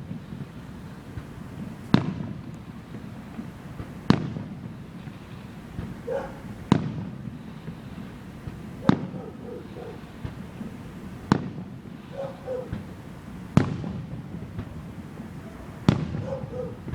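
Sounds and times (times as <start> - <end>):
firework shells booming: 0.0 - 16.9.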